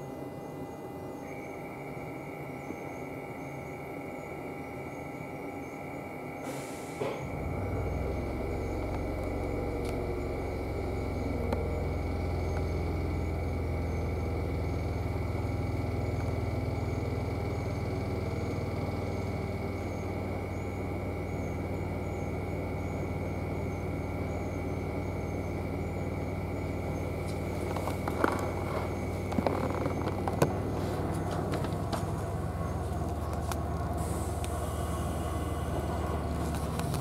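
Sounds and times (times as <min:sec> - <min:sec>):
constant high equipment tones: 0:00.0 - 0:37.0
railcar low hum: 0:00.0 - 0:37.0.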